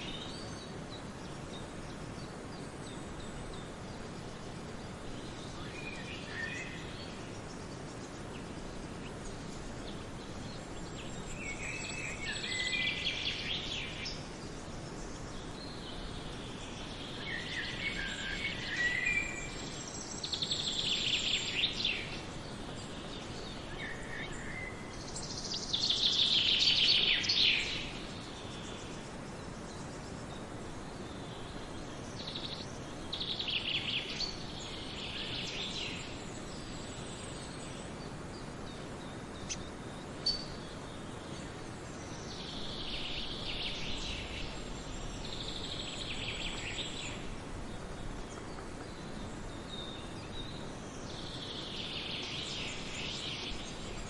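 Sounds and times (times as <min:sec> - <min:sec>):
songbirds trilling: 0:00.0 - 0:54.0
steady background hiss: 0:00.0 - 0:54.0.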